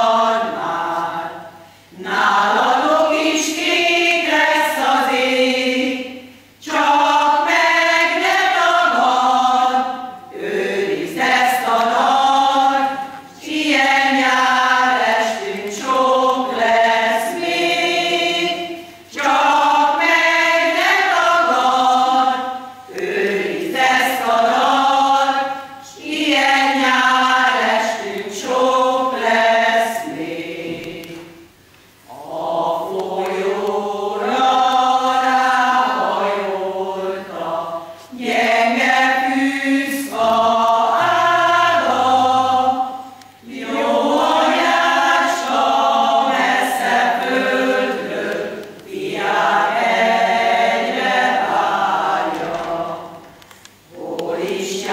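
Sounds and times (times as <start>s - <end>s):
women's choir singing: 0.0s - 54.9s.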